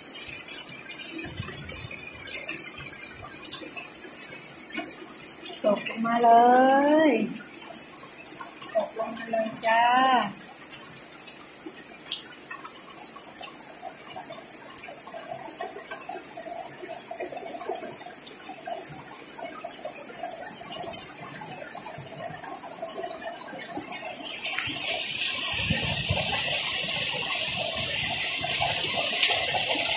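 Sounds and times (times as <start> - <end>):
heavy rain on plants: 0.0 - 29.9.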